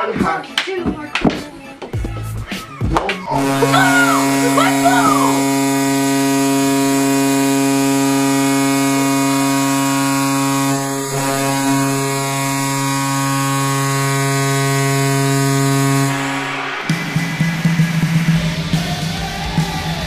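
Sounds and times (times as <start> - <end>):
goal horn blast: 1.2 - 18.1.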